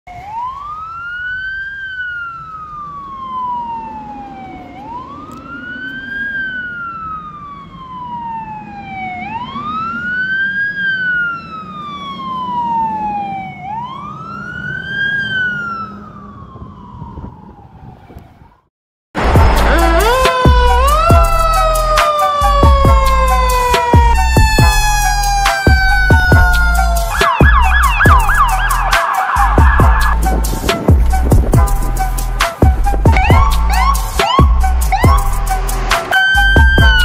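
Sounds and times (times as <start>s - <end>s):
fire engine siren wailing: 0.1s - 37.0s
low rumble of traffic: 0.1s - 37.0s.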